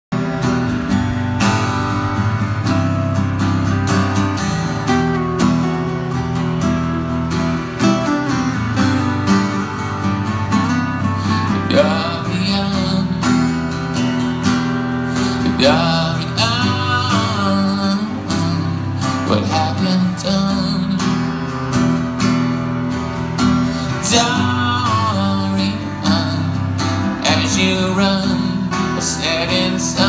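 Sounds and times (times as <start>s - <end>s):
two acoustic guitars playing: 0.1s - 30.0s.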